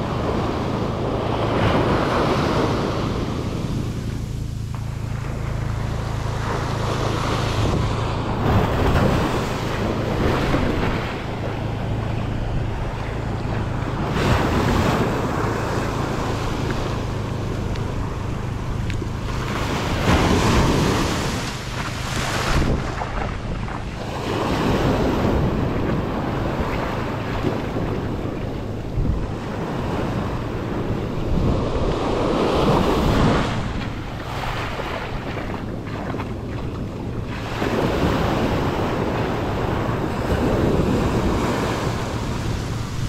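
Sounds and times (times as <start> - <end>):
ocean waves breaking: 0.0 - 43.0
wind rumbling on microphone: 0.0 - 43.0.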